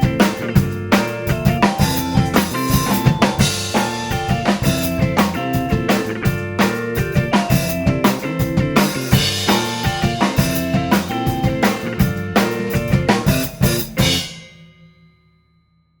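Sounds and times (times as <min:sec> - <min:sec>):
drum kit playing: 0:00.0 - 0:14.8.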